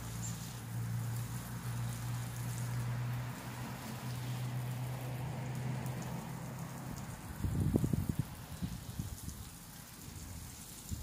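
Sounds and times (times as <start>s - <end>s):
hose spray on plants: 0.0s - 11.0s.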